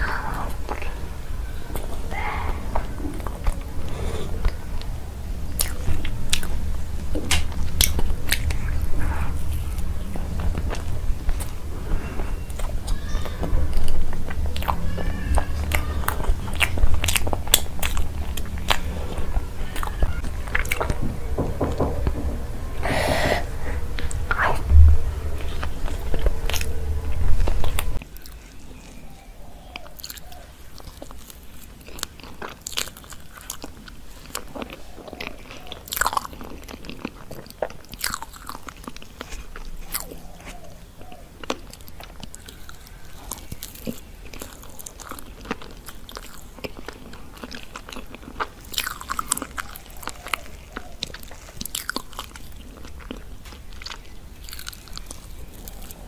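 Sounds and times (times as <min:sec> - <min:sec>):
chewing and biting cake: 0:02.8 - 0:22.2, 0:23.8 - 0:56.0.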